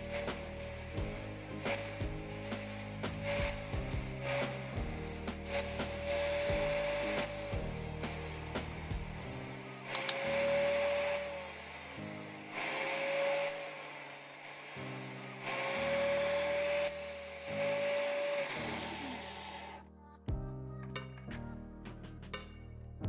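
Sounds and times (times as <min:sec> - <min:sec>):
background music: 0:00.0 - 0:12.6, 0:15.2 - 0:23.0
angle grinder grinding drill bit: 0:00.0 - 0:19.8.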